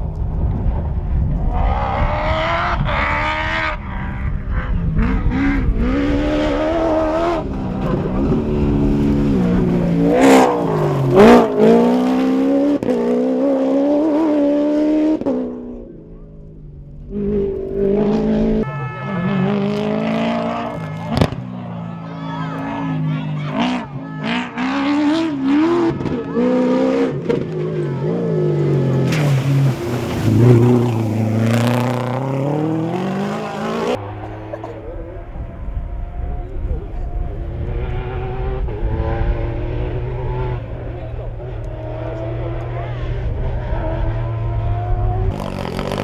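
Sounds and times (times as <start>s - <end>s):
truck engine revving: 1.6s - 15.8s, 17.0s - 21.8s, 22.5s - 46.0s.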